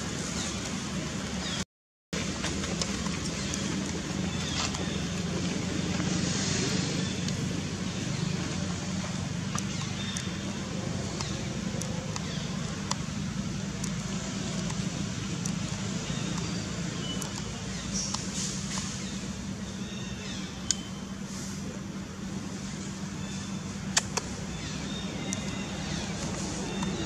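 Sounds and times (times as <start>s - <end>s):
low hum of distant traffic: 0.0s - 1.6s, 2.2s - 27.0s.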